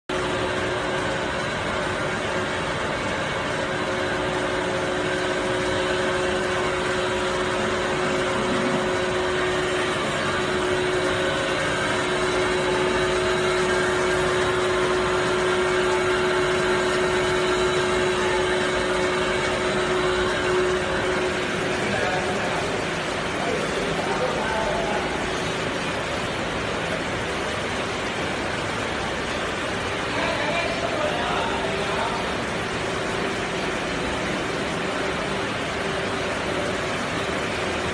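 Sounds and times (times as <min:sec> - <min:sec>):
machine humming and whirring: 0:00.1 - 0:37.9.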